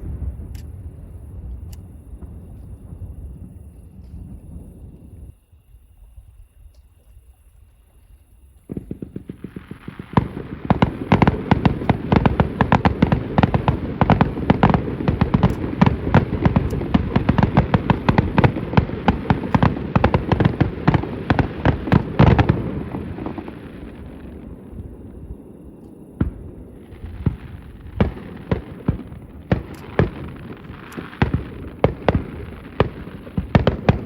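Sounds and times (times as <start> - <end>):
distant fireworks bursts: 0.0 - 6.1, 8.3 - 34.0.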